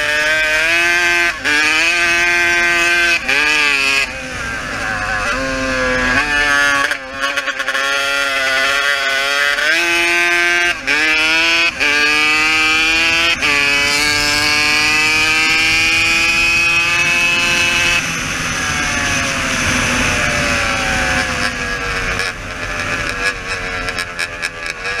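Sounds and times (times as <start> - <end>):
quad engine running hard: 0.0 - 25.0.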